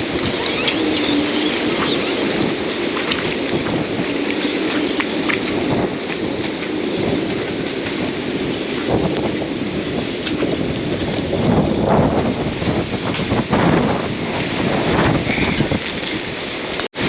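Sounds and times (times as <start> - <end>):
heavy rain: 0.0 - 17.0
strong wind on microphone: 0.0 - 17.0.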